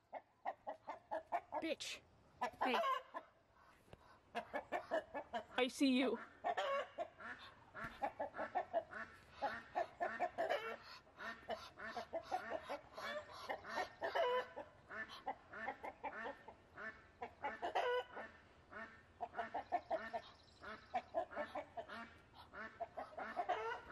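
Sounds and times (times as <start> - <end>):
chickens clucking: 0.0 - 23.9
chicken squawks: 2.4 - 23.9.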